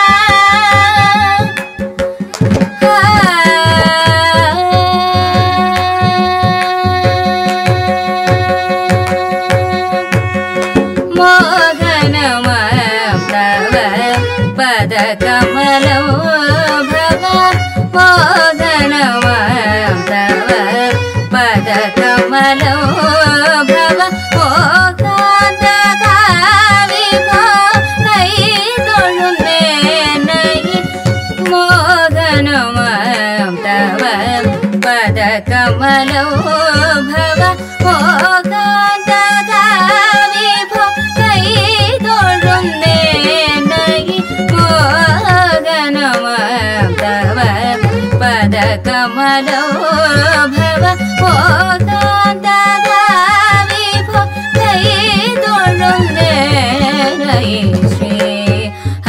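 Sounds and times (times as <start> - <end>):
mridangam drum strokes: 0.0 - 59.0
violin: 0.0 - 59.0
person singing: 2.2 - 59.0.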